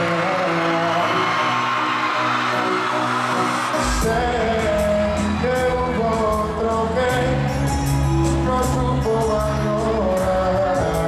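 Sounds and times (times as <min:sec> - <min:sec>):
live pop band music: 0:00.0 - 0:11.0
person singing: 0:00.0 - 0:11.0.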